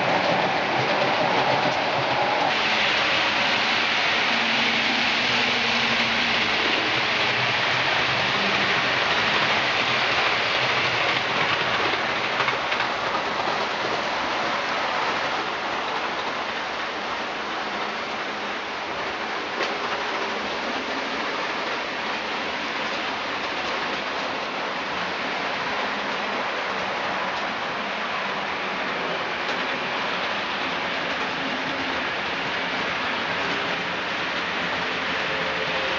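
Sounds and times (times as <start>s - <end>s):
model train running on track: 0.0s - 35.9s.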